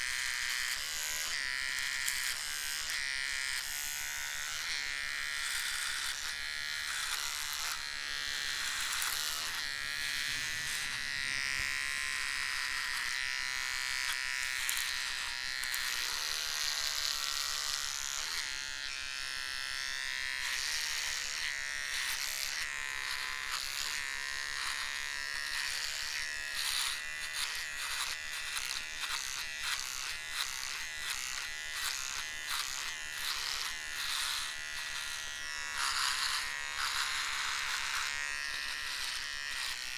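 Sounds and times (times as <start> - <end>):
electric hair trimmer buzzing: 0.0 - 39.9.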